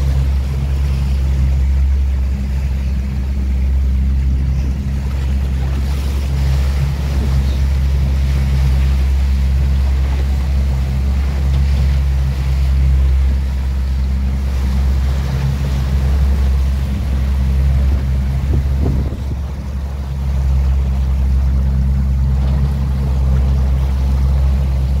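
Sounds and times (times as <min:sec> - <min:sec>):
boat engine droning: 0:00.0 - 0:25.0
water splashing along hull: 0:00.0 - 0:25.0.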